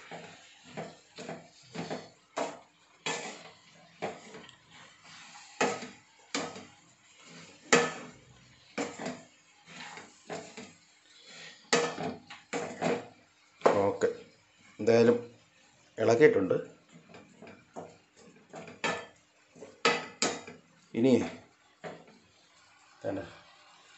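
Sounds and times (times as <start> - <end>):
spatula scraping frying pan: 0.0 - 23.9.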